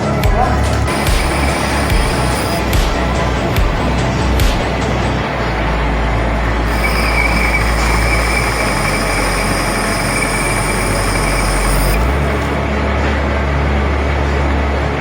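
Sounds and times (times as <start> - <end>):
high machine whine: 0.0 - 15.0
machine running: 0.0 - 15.0.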